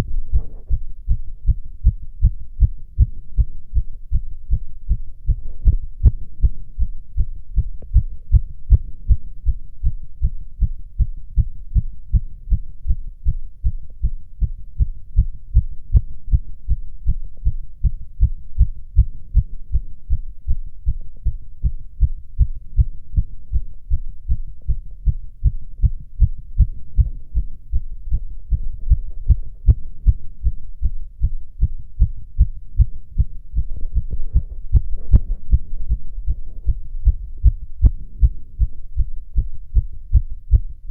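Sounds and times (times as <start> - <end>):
heartbeat through stethoscope: 0.0 - 40.9.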